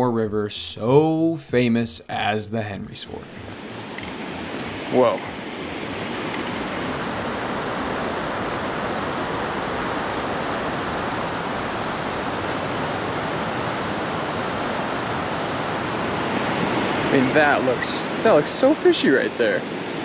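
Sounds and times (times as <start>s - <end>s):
white water rushing: 3.1s - 20.0s.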